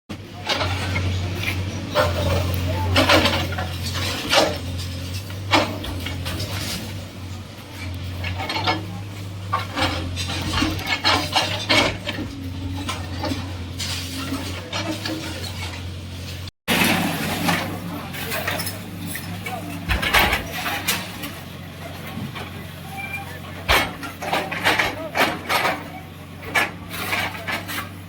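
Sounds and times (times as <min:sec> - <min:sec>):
metallic clanks and knocks: 0:00.4 - 0:07.0, 0:07.8 - 0:15.9, 0:16.7 - 0:28.0.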